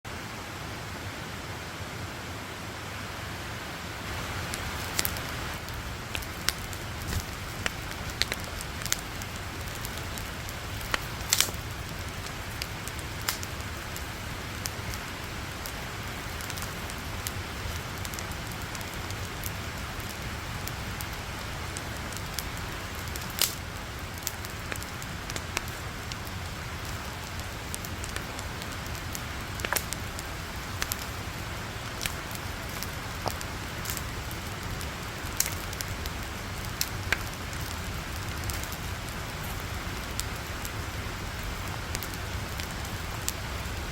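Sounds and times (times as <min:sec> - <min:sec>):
campfire crackling and popping: 0:04.1 - 0:43.9.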